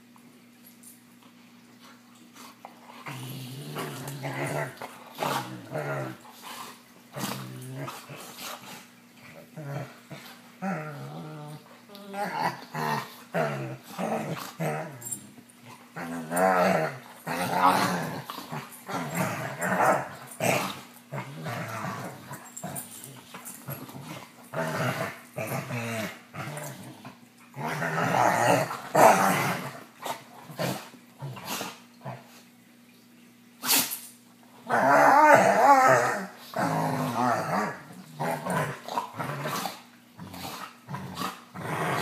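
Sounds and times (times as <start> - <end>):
dogs growling and snarling: 2.3 - 32.5, 34.6 - 42.0.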